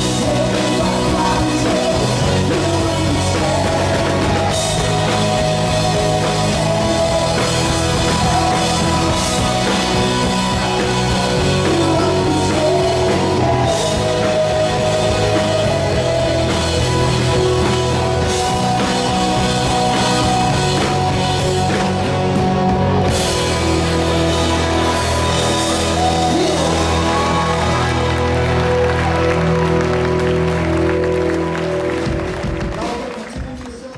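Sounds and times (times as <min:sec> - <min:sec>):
rock music with drums and guitar: 0:00.0 - 0:33.7.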